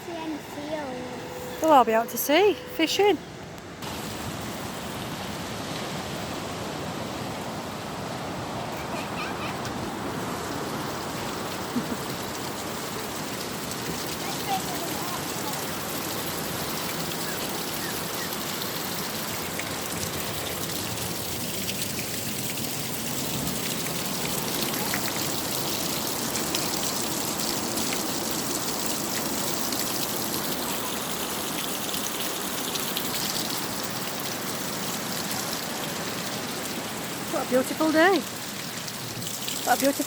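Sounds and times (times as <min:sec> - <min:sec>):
sea waves washing onto beach: 0:03.8 - 0:40.0.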